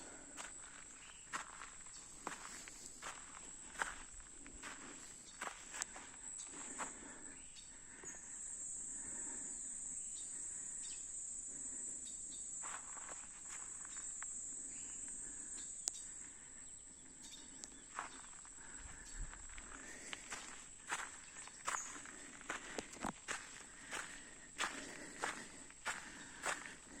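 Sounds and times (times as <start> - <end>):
insect chorus buzzing: 0.0 - 27.0.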